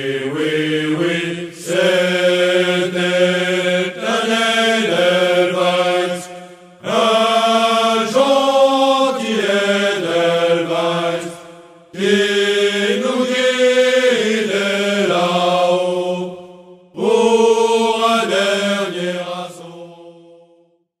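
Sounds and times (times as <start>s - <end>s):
men singing in unison: 0.0s - 20.6s.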